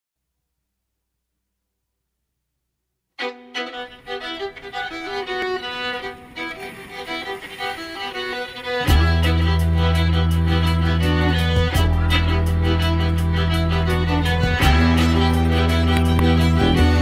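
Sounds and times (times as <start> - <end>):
instrumental music with fiddle: 3.2 - 17.0.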